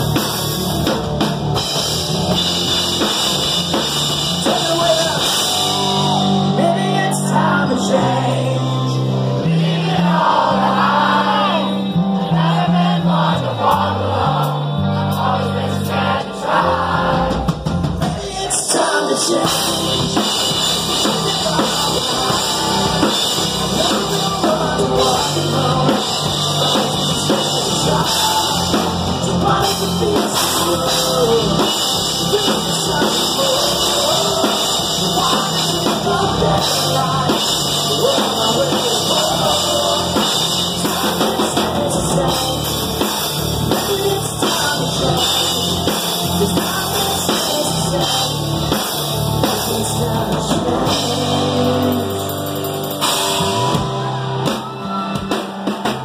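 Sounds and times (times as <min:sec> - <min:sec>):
drums and cymbals: 0:00.0 - 0:08.2, 0:14.4 - 0:56.0
bass line: 0:00.0 - 0:56.0
electric guitars: 0:00.0 - 0:56.0
person singing: 0:04.3 - 0:17.4, 0:18.0 - 0:56.0.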